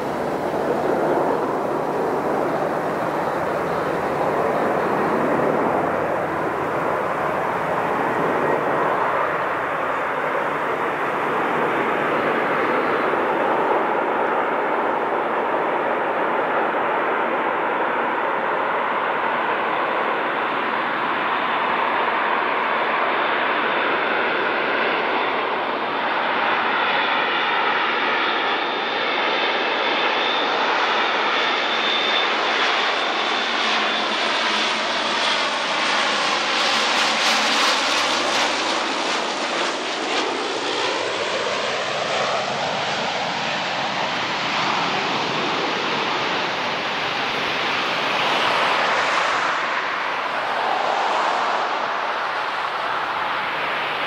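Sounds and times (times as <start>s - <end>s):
propeller aircraft drone: 0.0s - 54.0s.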